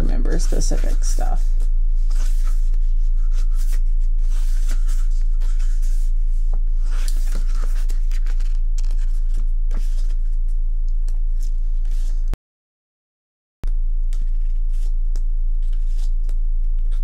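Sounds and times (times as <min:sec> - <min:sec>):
low steady hum: 0:00.0 - 0:12.4, 0:13.7 - 0:17.0
pages flipping: 0:00.3 - 0:12.2, 0:14.1 - 0:17.0.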